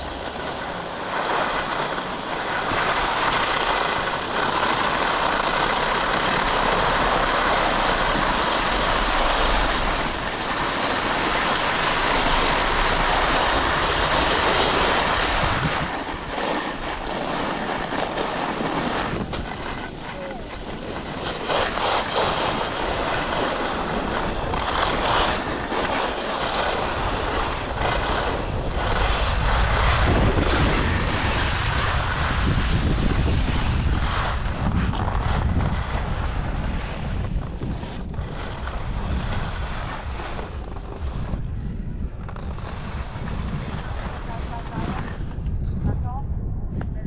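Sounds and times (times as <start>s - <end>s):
ski edges scraping snow: 0.0s - 45.4s
wind buffeting microphone: 0.0s - 47.0s.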